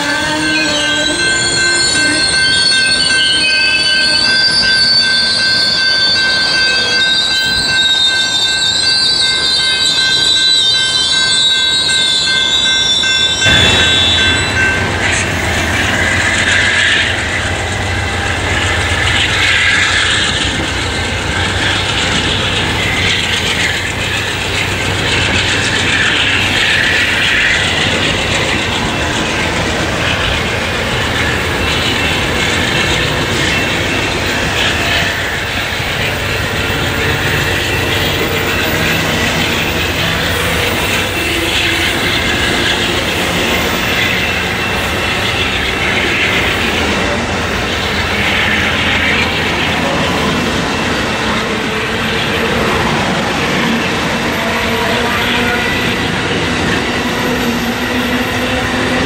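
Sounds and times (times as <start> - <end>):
diesel locomotive rumbling: 0.0 - 59.0
train wheels squealing: 0.0 - 59.0
wheel and rail noise: 0.0 - 59.0.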